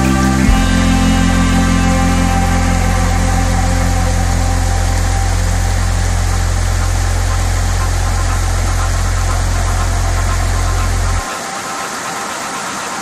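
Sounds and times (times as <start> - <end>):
loud low hum: 0.0 - 11.3.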